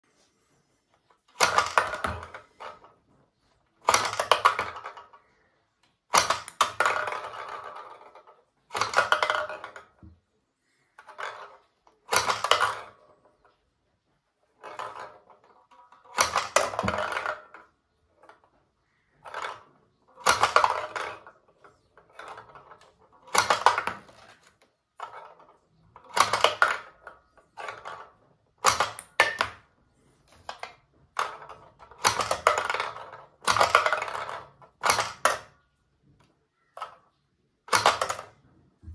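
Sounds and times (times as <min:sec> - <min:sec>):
plastic ball clattering in toy hoop: 0:01.0 - 0:38.9.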